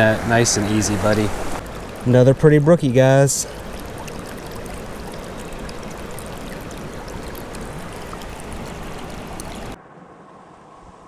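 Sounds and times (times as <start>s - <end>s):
fast white water rushing: 0.0s - 9.8s
muffled underwater wash: 0.0s - 11.0s.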